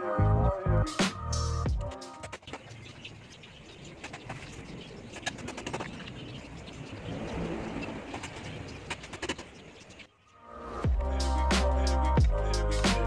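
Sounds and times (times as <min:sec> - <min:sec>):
birds calling: 0:01.2 - 0:13.0.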